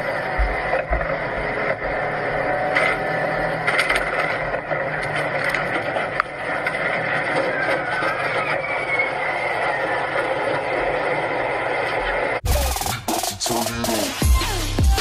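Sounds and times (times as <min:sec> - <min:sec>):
road noise: 0:00.0 - 0:12.9
truck engine: 0:00.0 - 0:15.0.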